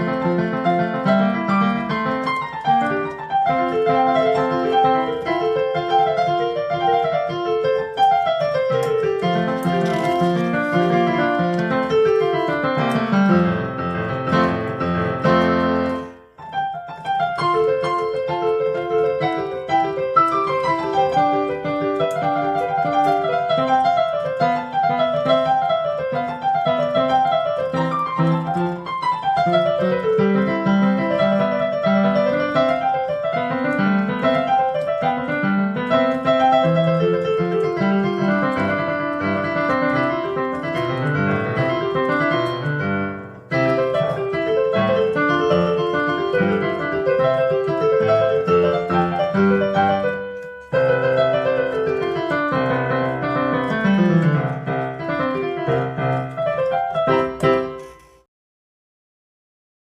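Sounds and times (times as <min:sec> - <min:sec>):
lively solo piano: 0:00.0 - 0:58.3.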